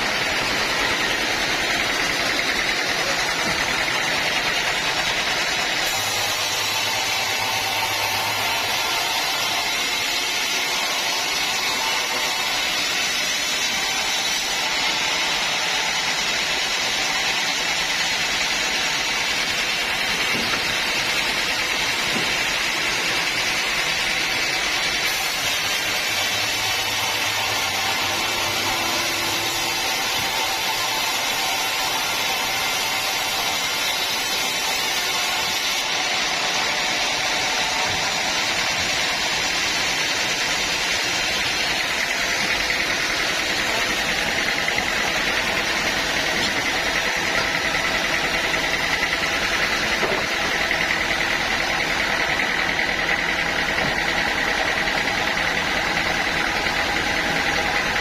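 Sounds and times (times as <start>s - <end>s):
band sawmill sawing log: 0.0s - 58.0s.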